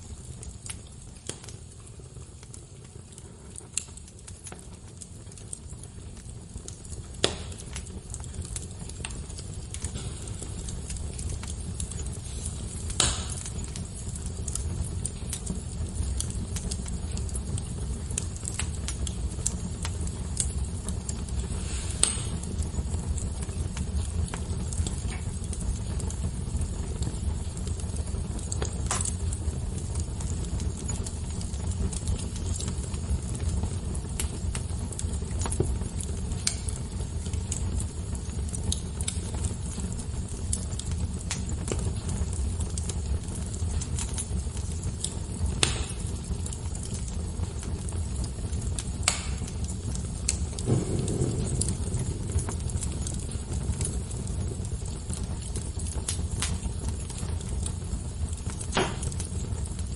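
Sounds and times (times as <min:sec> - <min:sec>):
low rush of flames: 0:00.0 - 0:59.9
wood fire crackling and popping: 0:00.0 - 0:59.9.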